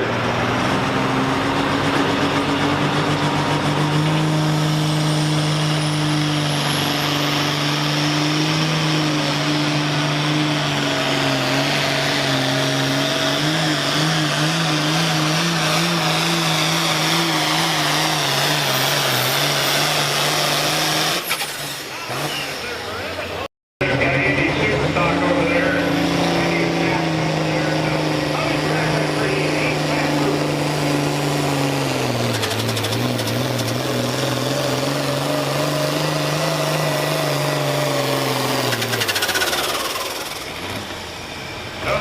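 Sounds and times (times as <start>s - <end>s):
diesel engine at high revs: 0.0s - 42.0s.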